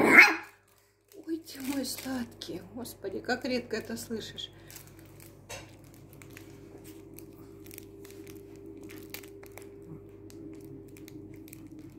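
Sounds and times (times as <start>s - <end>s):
steady hum: 1.8s - 11.9s.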